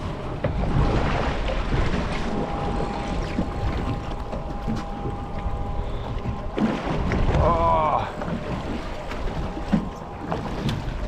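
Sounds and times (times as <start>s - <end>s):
water sloshing against boat hull: 0.0s - 11.0s.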